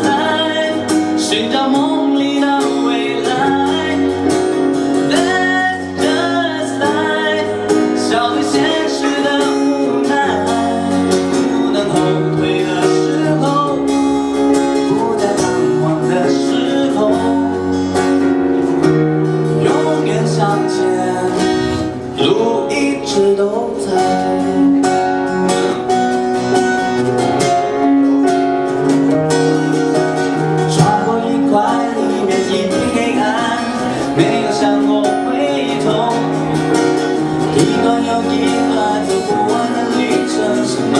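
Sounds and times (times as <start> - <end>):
person singing: 0.0 - 18.8, 19.4 - 26.0, 30.3 - 40.9
bass line: 0.0 - 40.9
strummed acoustic guitar: 0.0 - 40.9.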